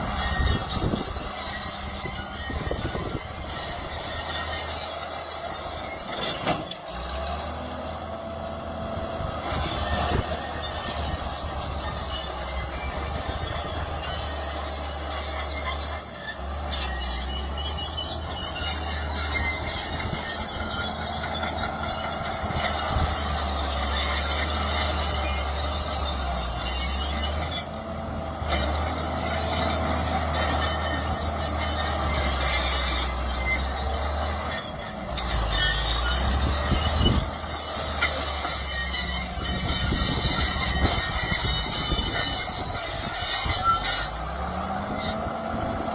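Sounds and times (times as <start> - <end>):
high metallic squeal: 0.0 - 7.5, 9.3 - 45.9
excavator diesel engine droning: 0.0 - 45.9.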